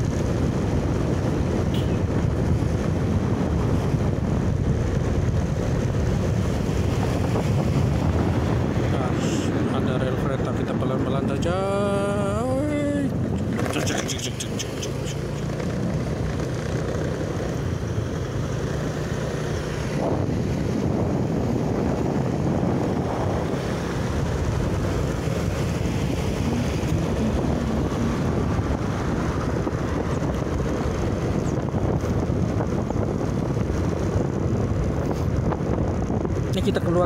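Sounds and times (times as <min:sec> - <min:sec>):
vehicle road and engine rumble: 0:00.0 - 0:37.0
wind buffeting microphone: 0:00.0 - 0:37.0.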